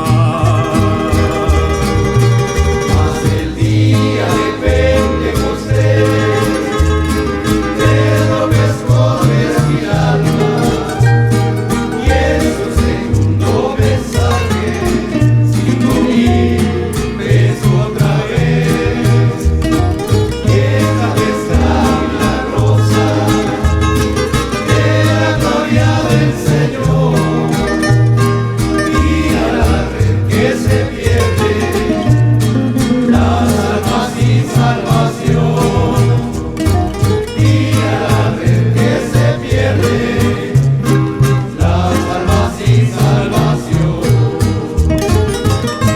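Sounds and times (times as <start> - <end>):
bass line: 0.0 - 45.9
guitars strummed and plucked: 0.0 - 45.9.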